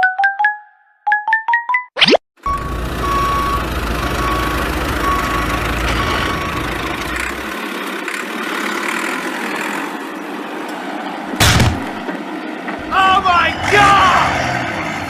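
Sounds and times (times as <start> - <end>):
vehicle engine rumbling: 2.4 - 15.0.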